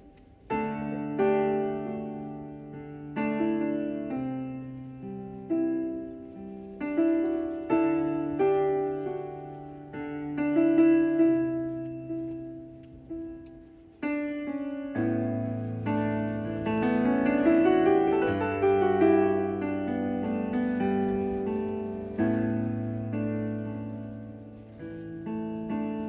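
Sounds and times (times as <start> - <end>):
slow piano music: 0.0 - 26.0.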